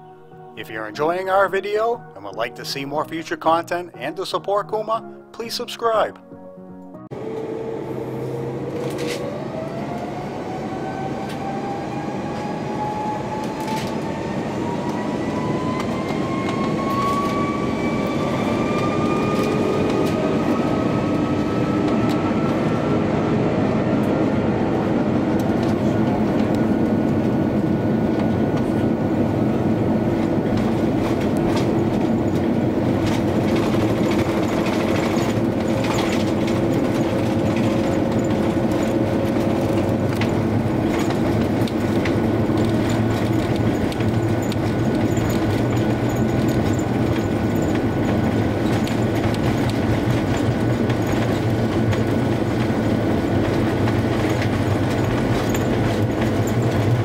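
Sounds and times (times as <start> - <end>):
jet engines spooling up: 7.1 - 57.0
wheels rumbling on runway: 7.1 - 57.0.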